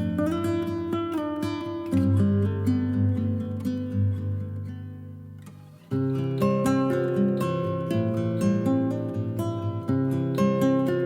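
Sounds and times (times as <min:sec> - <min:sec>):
acoustic guitar plucked notes: 0:00.0 - 0:11.0.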